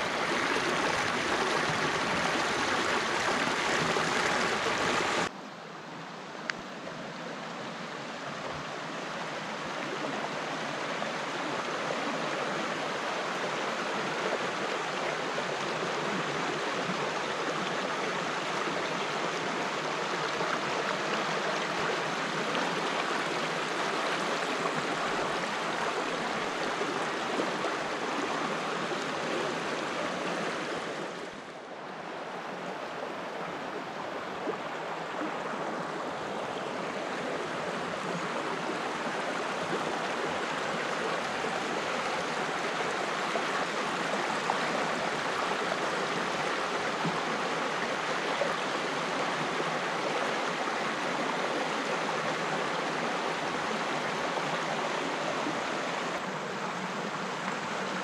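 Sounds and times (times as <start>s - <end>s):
river rushing over rocks: 0.0s - 5.3s, 7.4s - 58.0s.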